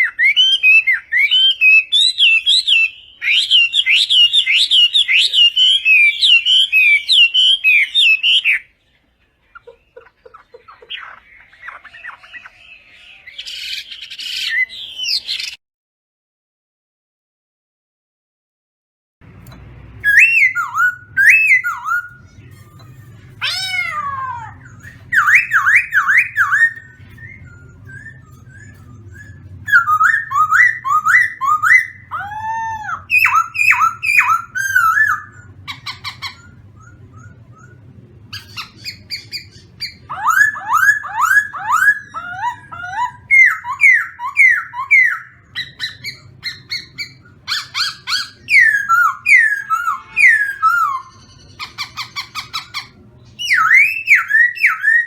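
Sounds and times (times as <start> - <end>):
songbird singing: 0.0 - 15.6, 19.2 - 55.0.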